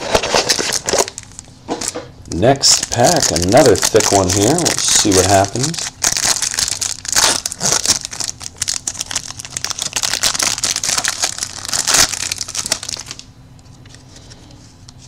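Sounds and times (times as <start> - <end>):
plastic wrapper crinkling: 0.0 - 13.3.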